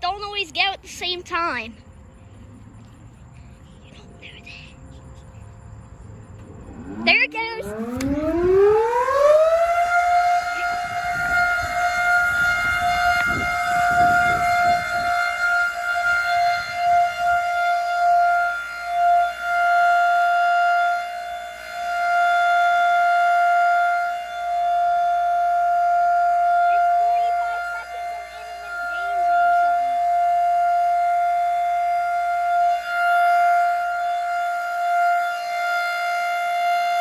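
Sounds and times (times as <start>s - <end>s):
siren wailing: 4.2s - 37.0s.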